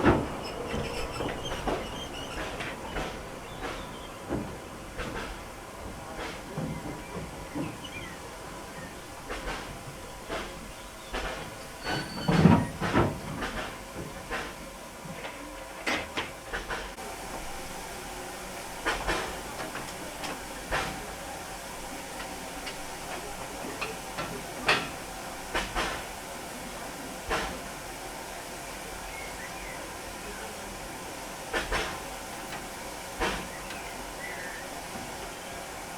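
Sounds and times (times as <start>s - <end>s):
steam hissing: 0.0s - 35.9s.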